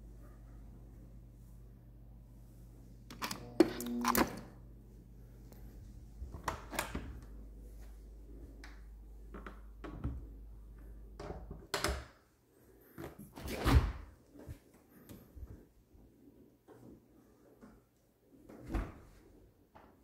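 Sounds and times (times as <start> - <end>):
low refrigerator hum: 0.0 - 20.0.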